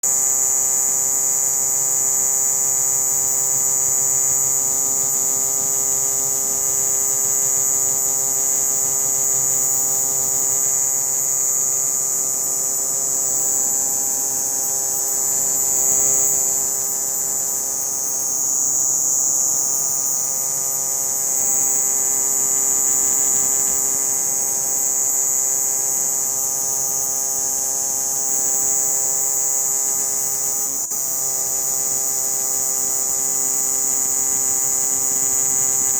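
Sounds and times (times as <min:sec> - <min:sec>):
cicada buzzing: 0:00.1 - 0:35.9.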